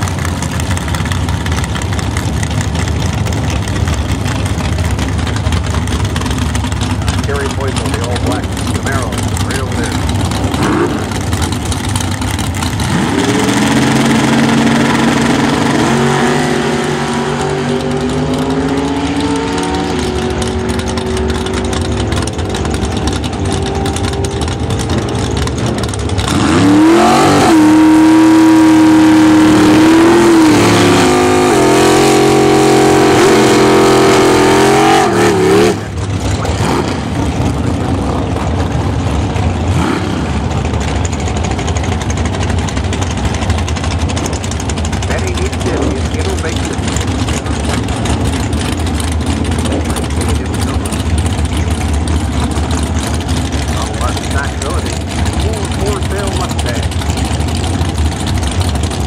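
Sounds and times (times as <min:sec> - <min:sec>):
drag car engine accelerating: 0:00.0 - 0:59.0
drag car engine revving for burnout: 0:00.0 - 0:59.0.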